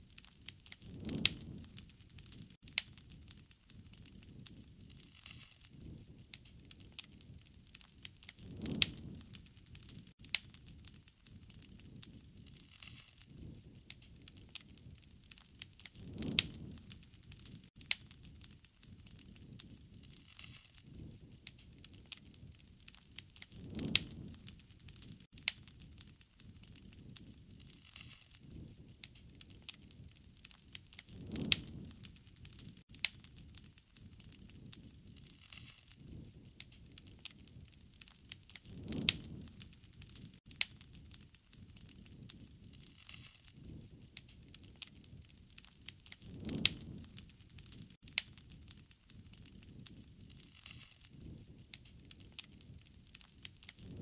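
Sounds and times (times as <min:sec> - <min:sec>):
soft hiss of fire: 0:00.0 - 0:54.0
wood fire crackling: 0:00.0 - 0:54.0
flames rushing: 0:00.1 - 0:54.0.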